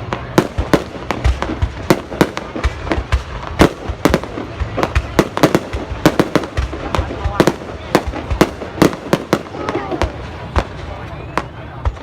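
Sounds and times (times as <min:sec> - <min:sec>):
continuous low rumble: 0:00.0 - 0:12.0
fireworks bangs: 0:00.0 - 0:12.0.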